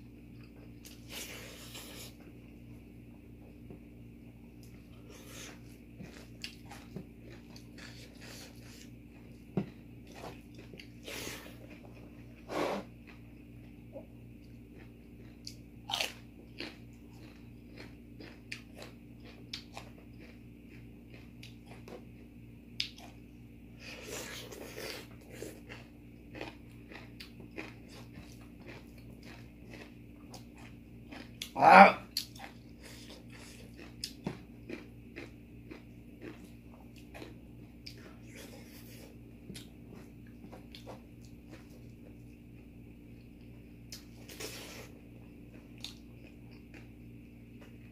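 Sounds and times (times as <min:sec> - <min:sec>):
person chewing and crunching food: 0:00.0 - 0:47.9
steady low hum: 0:00.0 - 0:47.9.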